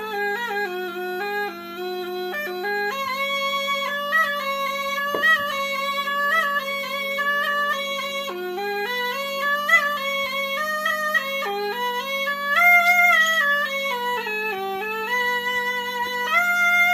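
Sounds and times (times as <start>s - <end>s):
reed pipe melody: 0.0s - 16.9s.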